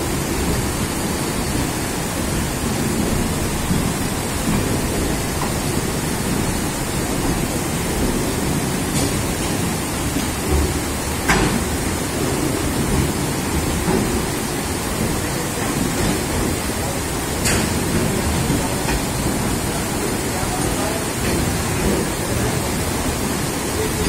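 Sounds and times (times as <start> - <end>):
train wheels splashing through water: 0.0 - 24.0.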